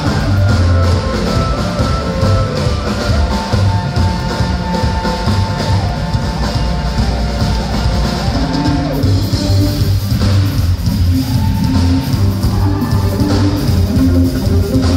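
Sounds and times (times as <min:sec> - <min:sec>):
bass: 0:00.0 - 0:14.9
drum kit: 0:00.0 - 0:14.9
electric guitar: 0:00.0 - 0:14.9
live band playing: 0:00.0 - 0:14.9.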